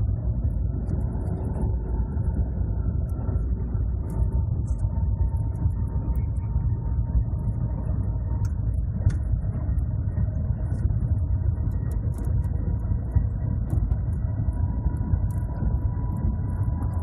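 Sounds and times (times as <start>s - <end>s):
faint steady tone: 0.0s - 17.0s
train cabin low rumble: 0.0s - 17.0s.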